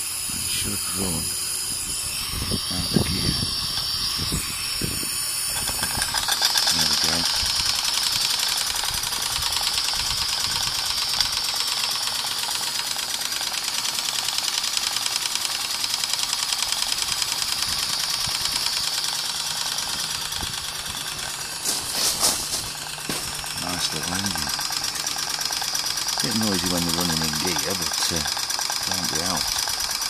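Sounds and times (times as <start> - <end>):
steam engine gearing clatter: 5.4 - 30.0.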